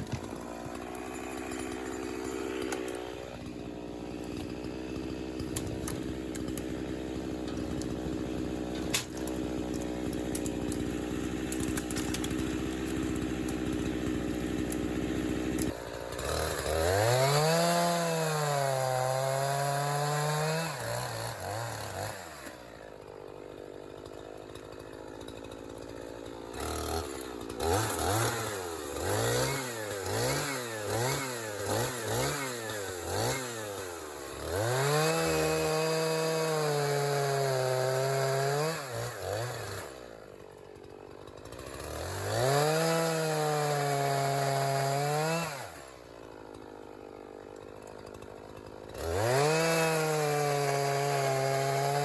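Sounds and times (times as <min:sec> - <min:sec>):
chainsaw revving and idling: 0:00.0 - 0:52.0.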